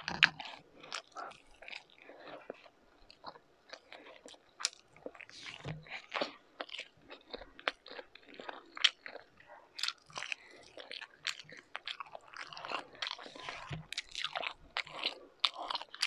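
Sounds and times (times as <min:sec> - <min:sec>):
close chewing mouth clicks: 0:00.0 - 0:16.0.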